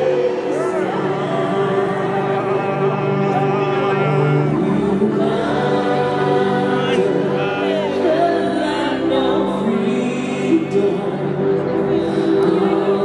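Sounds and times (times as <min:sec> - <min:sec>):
music: 0:00.0 - 0:13.0
voices singing in chorus: 0:00.0 - 0:13.0.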